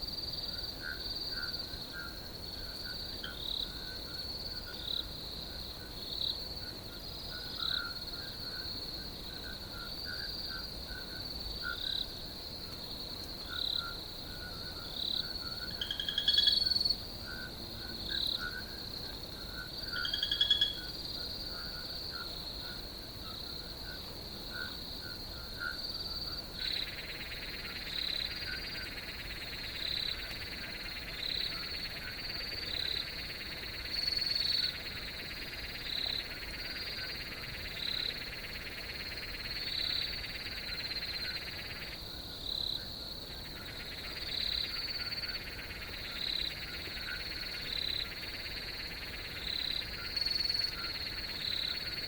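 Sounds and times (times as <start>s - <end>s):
crickets trilling: 0.0s - 52.0s
lower buzzing insect chorus: 0.0s - 52.0s.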